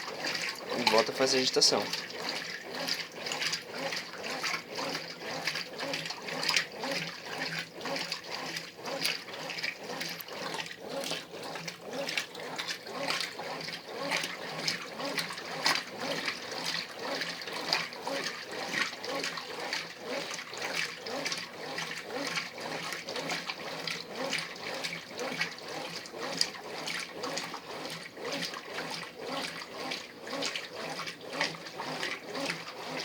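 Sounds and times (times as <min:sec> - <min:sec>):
washing machine sloshing water: 0:00.0 - 0:33.0.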